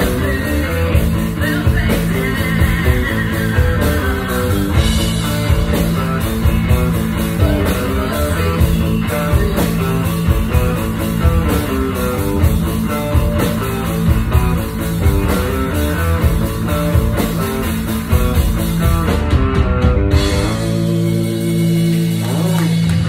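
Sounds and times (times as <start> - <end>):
bass guitar: 0.0 - 23.0
drum kit: 0.0 - 23.0
electric guitars: 0.0 - 23.0.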